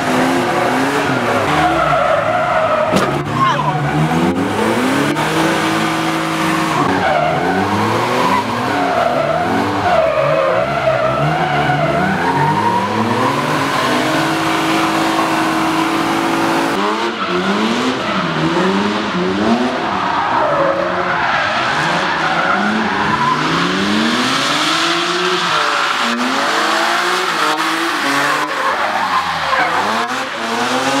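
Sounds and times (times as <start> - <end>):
car engines revving: 0.0 - 31.0
tyre squeal and skidding: 0.5 - 4.7, 5.6 - 18.5, 19.8 - 31.0.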